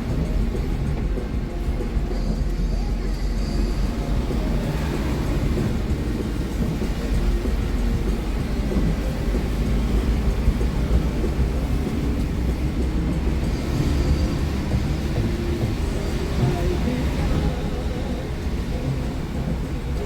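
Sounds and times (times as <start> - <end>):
bus diesel engine rumble: 0.0 - 20.0.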